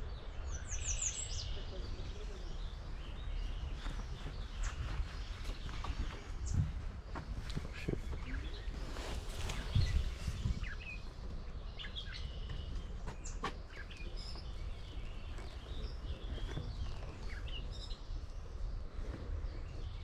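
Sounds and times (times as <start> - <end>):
wild birds chirping and singing: 0.0 - 20.0.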